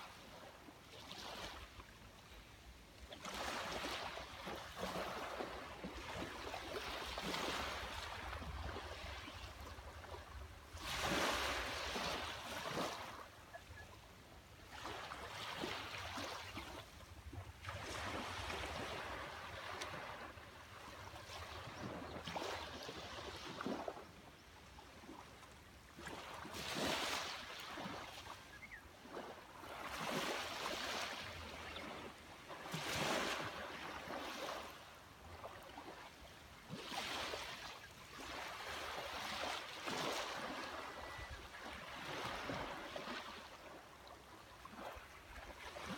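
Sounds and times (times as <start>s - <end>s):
small waves washing on beach: 0.0s - 45.9s.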